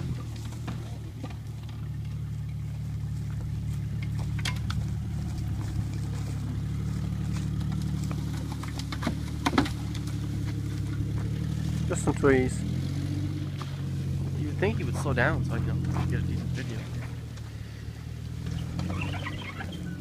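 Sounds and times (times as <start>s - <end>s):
car engine running under load: 0.0s - 20.0s.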